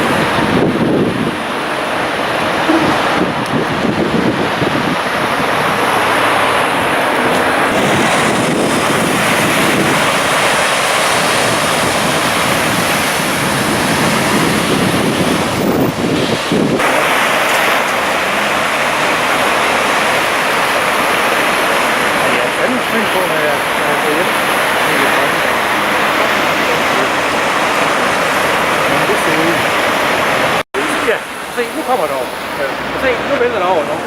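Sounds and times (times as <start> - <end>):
water washing and splashing: 0.0 - 34.0
wind buffeting microphone: 0.0 - 34.0.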